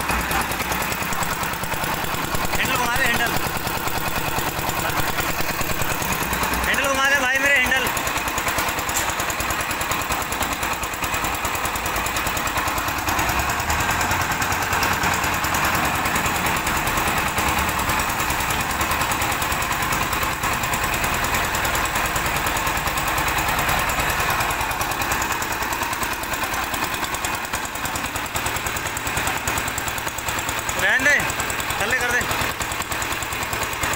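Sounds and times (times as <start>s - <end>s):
diesel engine clattering: 0.0s - 33.9s.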